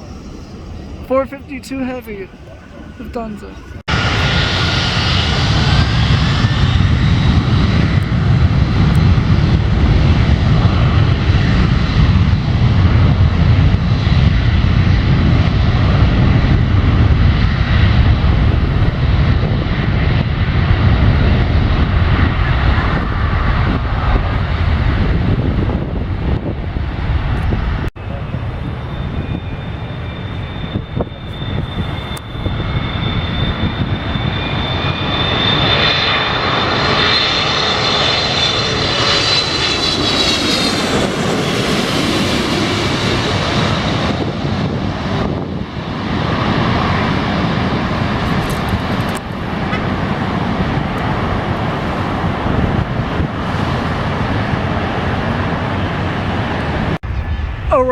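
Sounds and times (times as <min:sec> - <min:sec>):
jet airliner engine roar: 0:00.0 - 0:57.9.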